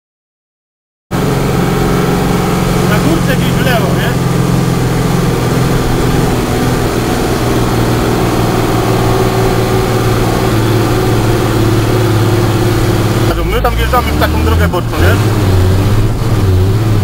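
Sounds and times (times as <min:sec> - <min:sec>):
truck engine running: 0:01.1 - 0:17.0.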